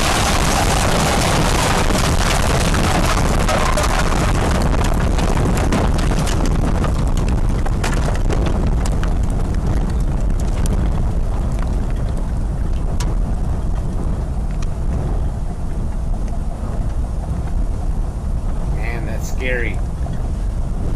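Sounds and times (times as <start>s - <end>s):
storm wind buffeting microphone: 0.0s - 20.9s.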